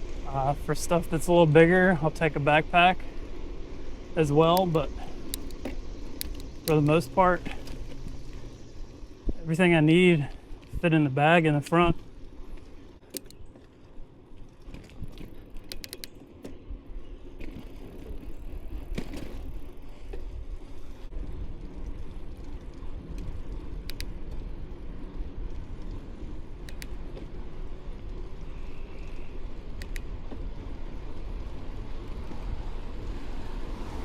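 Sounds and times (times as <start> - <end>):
bike clicks and rattles: 0.0 - 34.0
bike rolling and wind rumble: 0.0 - 34.0.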